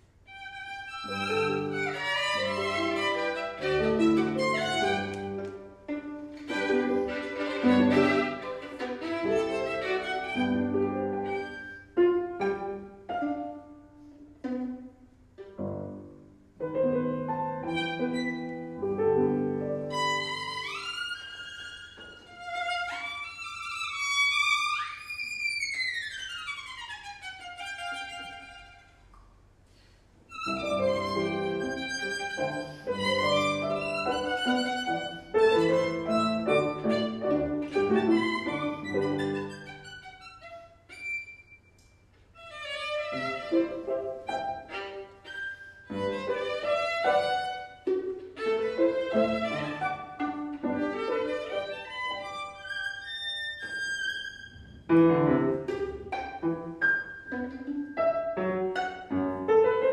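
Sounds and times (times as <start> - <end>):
violin: 0.0 - 29.2, 30.2 - 59.9
piano: 0.0 - 29.3, 30.2 - 59.9.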